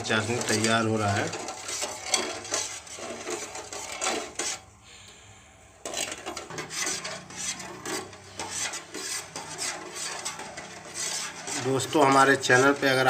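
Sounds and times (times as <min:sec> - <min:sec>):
metal skimmer scraping a steel pan: 0:00.0 - 0:04.8, 0:05.7 - 0:13.0.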